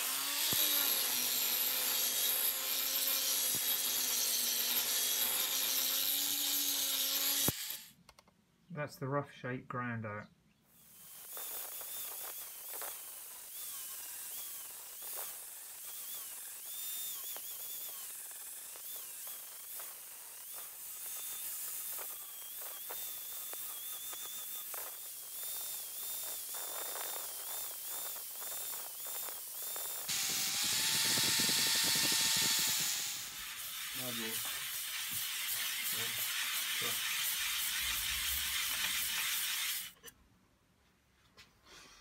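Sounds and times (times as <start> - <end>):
second angle grinder running: 0.0 - 7.9, 10.8 - 40.0
angle grinder grinding metal: 0.0 - 8.0, 10.7 - 40.1.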